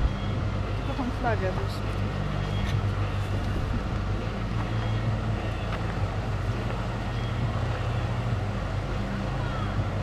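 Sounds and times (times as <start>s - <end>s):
low hum with held tones: 0.0s - 10.0s
outdoor noise: 0.0s - 10.0s.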